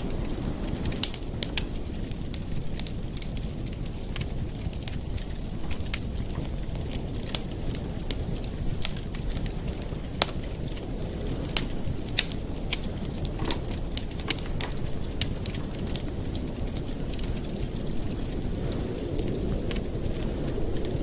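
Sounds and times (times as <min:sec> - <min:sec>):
campfire rumble: 0:00.0 - 0:21.0
wood crackling and popping: 0:00.0 - 0:21.0.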